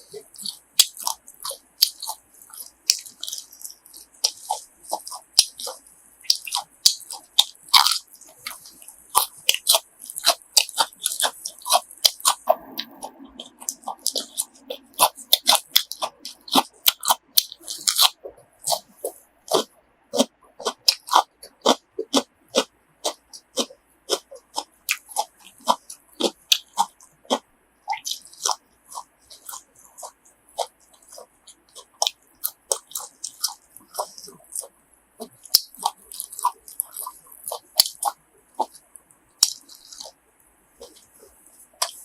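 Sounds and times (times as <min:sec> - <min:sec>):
crunchy bites and chewing: 0:00.0 - 0:42.0.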